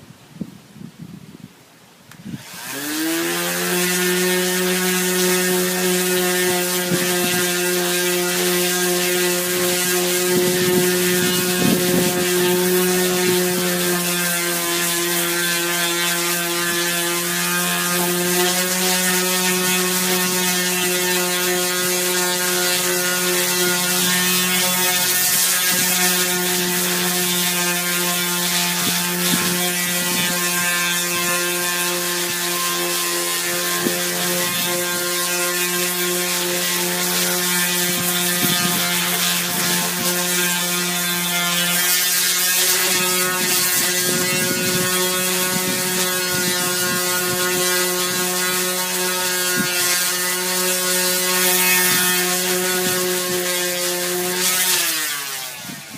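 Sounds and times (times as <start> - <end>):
electric sander whining: 2.1 - 55.9.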